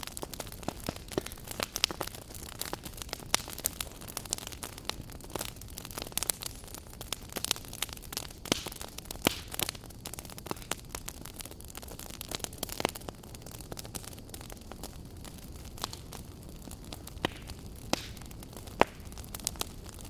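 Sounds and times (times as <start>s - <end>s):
fire crackling and popping: 0.0s - 20.0s
fire rumble and hiss: 0.0s - 20.0s.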